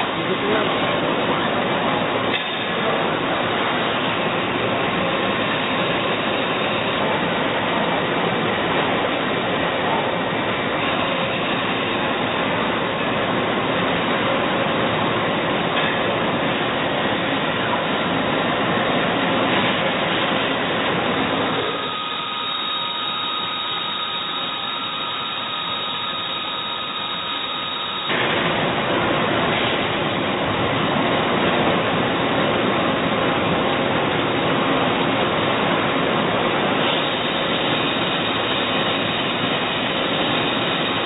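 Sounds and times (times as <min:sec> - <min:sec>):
lathe rushing noise: 0:00.0 - 0:41.0
thin steady whines: 0:00.0 - 0:41.0.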